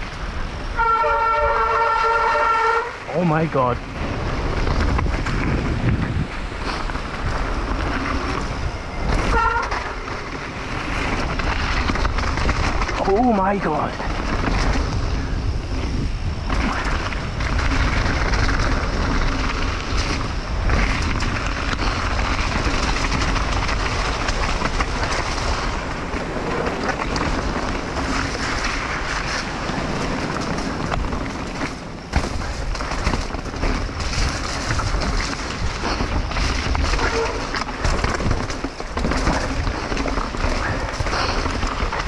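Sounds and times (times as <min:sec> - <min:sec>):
bike rattling: 0:00.0 - 0:42.0
bike tyres rolling over gravel: 0:00.0 - 0:42.0
wind rush on microphone: 0:00.0 - 0:42.0.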